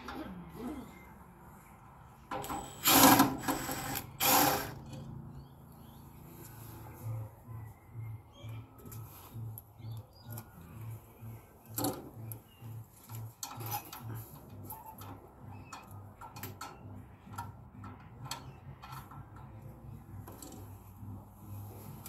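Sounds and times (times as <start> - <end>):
low pulsing hum: 0.0 - 22.0.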